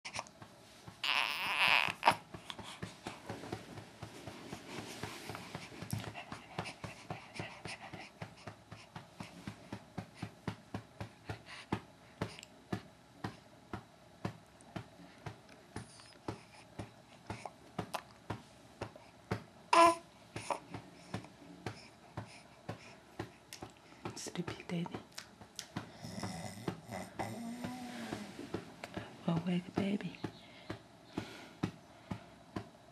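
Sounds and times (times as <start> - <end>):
patting on a baby's back: 0.1 - 32.7.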